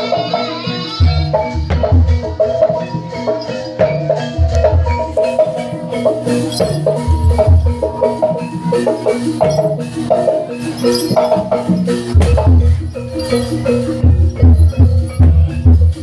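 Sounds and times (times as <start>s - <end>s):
rattling percussion: 0.0s - 16.0s
tuned percussion melody: 0.0s - 16.0s
deep drum beats: 1.0s - 2.9s, 3.8s - 16.0s.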